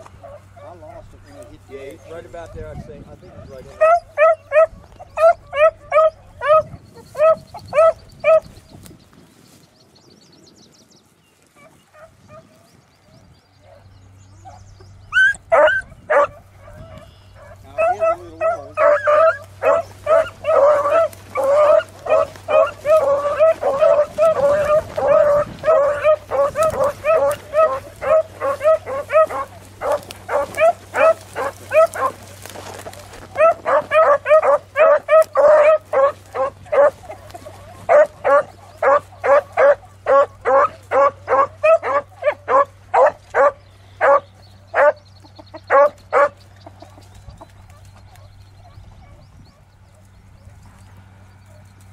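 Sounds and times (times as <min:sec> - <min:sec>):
dogs baying: 0:00.0 - 0:08.7, 0:11.5 - 0:51.9.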